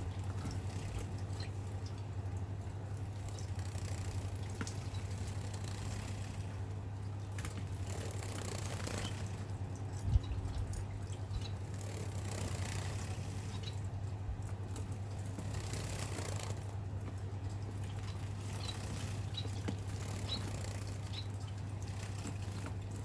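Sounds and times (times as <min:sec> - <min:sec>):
birds splashing in water: 0:00.0 - 0:23.0.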